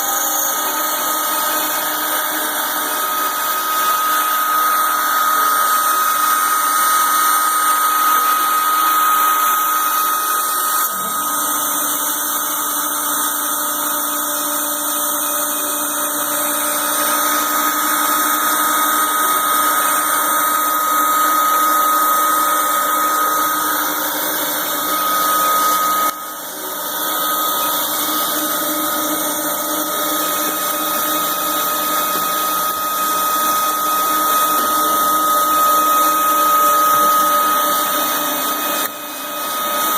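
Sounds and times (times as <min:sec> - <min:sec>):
router spindle high-pitched whine: 0:00.0 - 0:39.9.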